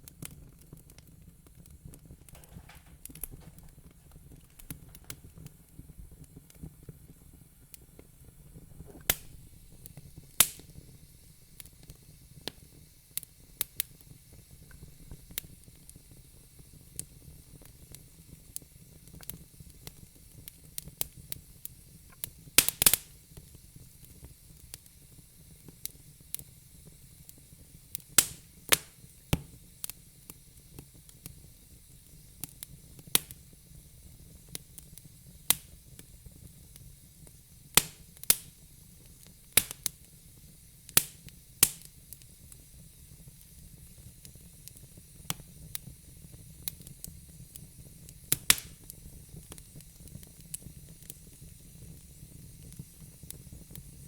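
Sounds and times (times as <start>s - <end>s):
faint steady hiss: 0.0s - 54.0s
wood fire crackling and popping: 0.0s - 54.0s.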